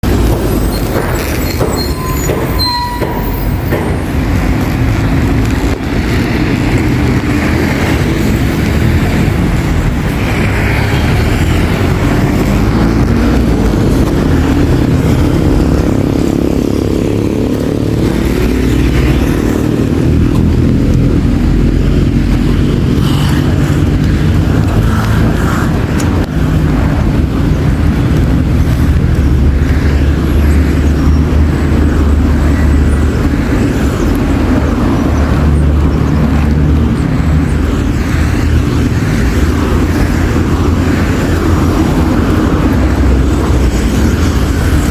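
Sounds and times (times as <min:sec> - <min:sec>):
road traffic engine rumble: 0:00.0 - 0:44.9.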